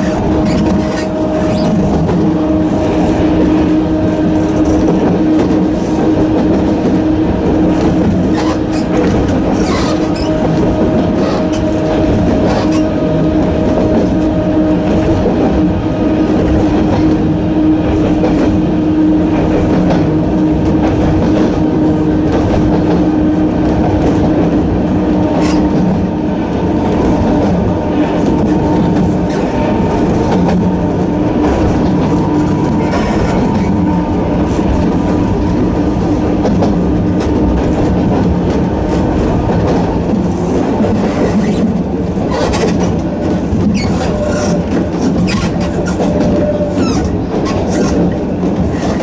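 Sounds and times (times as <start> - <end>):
train rolling noise: 0.0 - 49.0.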